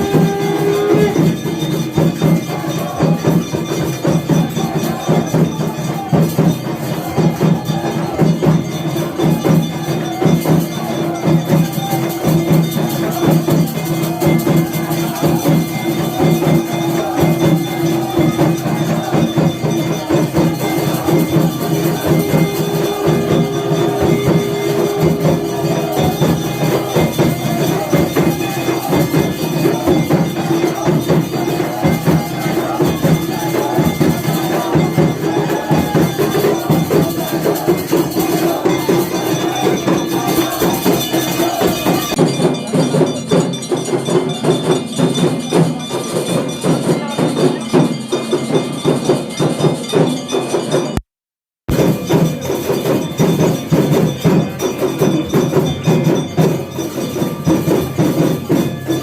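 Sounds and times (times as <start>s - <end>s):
cymbals clashing: 0.0s - 51.0s, 51.7s - 59.0s
drums beating fast: 0.0s - 51.0s, 51.7s - 59.0s
temple bells: 0.0s - 51.0s, 51.7s - 59.0s.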